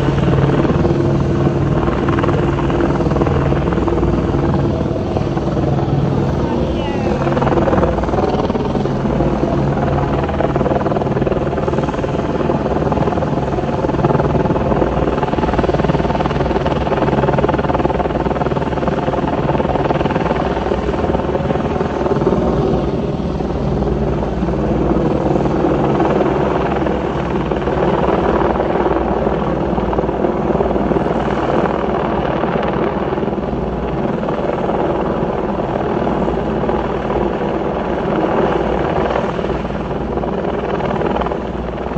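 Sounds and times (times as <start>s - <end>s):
helicopter hovering: 0.0s - 41.9s.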